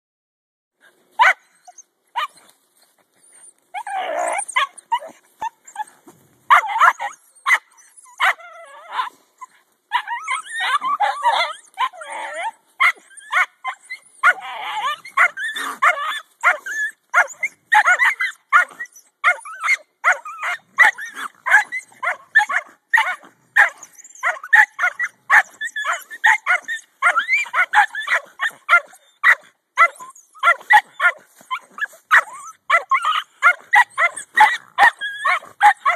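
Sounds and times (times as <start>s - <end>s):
dogs barking and yipping: 1.2s - 35.9s.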